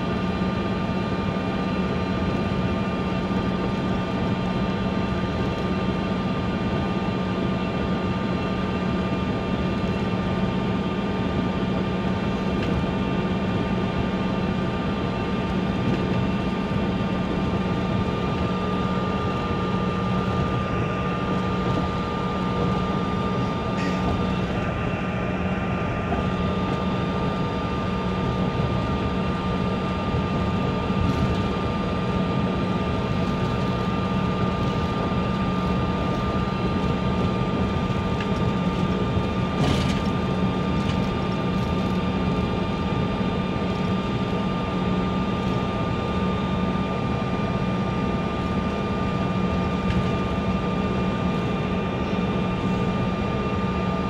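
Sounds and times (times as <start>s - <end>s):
airliner engines hum and whine: 0.0s - 54.0s.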